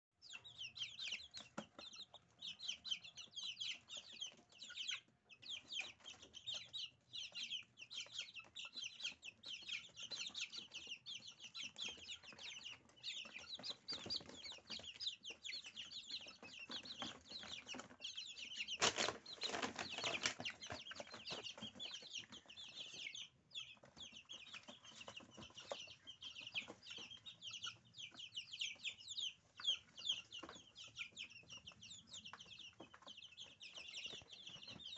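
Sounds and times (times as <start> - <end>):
chicks peeping: 0.2 - 34.9.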